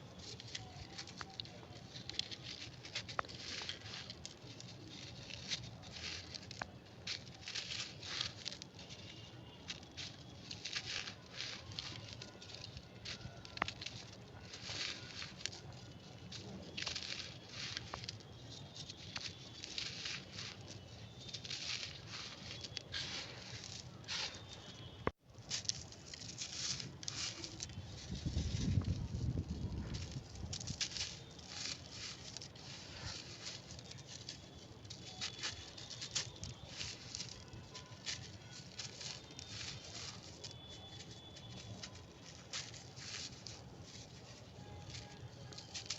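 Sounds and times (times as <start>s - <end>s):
brittle material crunching: 0.0s - 45.9s.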